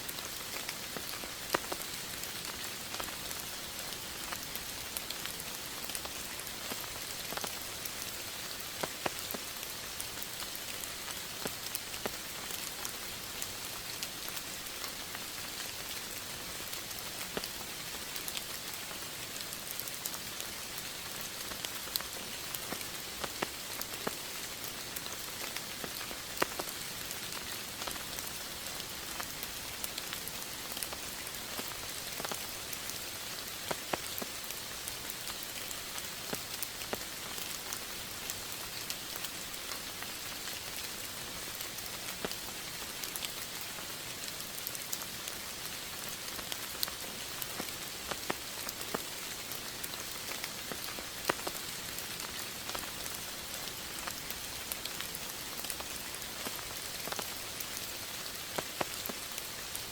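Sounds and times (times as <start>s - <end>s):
rain hiss: 0.0s - 59.9s
raindrops ticking on a surface: 0.0s - 59.9s.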